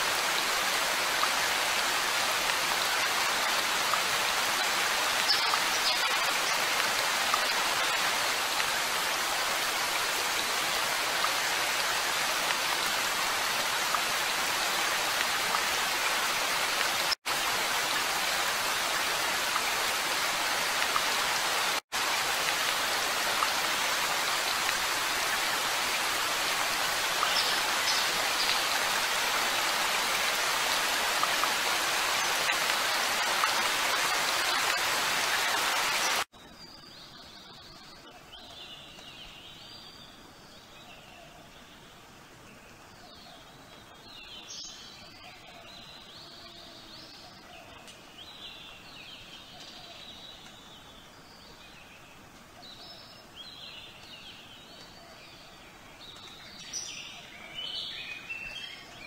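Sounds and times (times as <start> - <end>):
steady rain: 0.0 - 36.3, 36.9 - 59.0.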